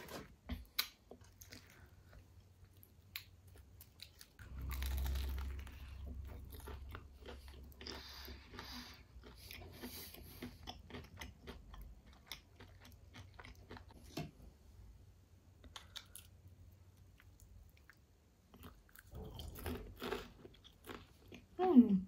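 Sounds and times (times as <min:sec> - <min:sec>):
chewing crispy fried chicken: 0:00.6 - 0:14.0, 0:15.6 - 0:21.6.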